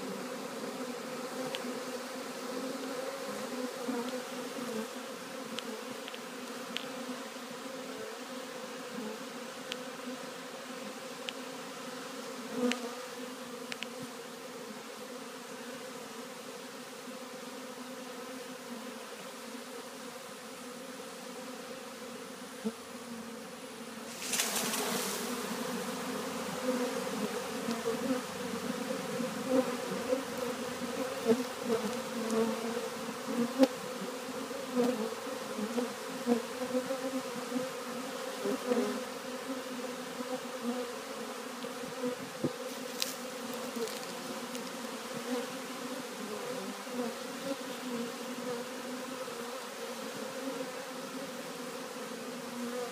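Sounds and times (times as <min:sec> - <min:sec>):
bee swarm buzzing: 0:00.0 - 0:52.9.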